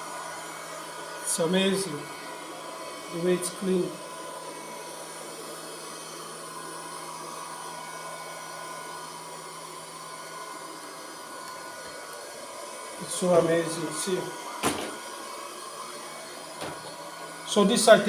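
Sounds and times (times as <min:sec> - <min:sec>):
robot vacuum cleaner whirring: 0:00.0 - 0:18.0.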